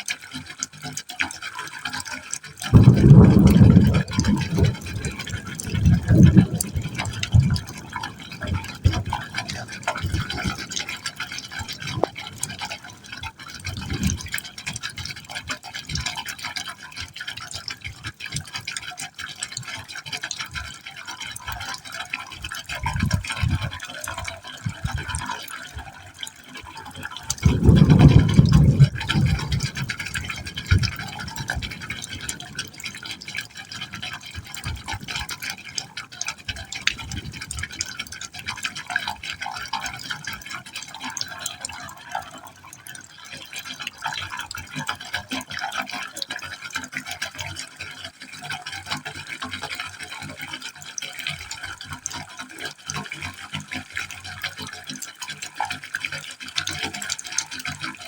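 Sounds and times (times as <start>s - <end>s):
water gurgling: 0.0s - 58.0s
water splashing into pipe: 0.0s - 58.0s.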